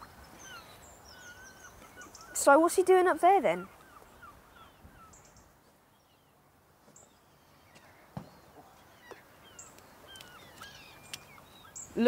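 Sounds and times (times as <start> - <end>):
bird chirps: 0.0 - 12.0
faint outdoor ambience: 0.0 - 12.0.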